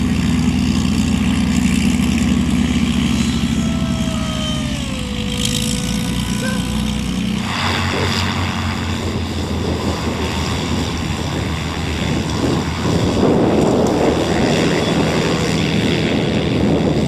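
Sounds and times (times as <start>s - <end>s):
propeller plane engines running: 0.0s - 17.0s
wind buffeting microphone: 0.1s - 17.0s.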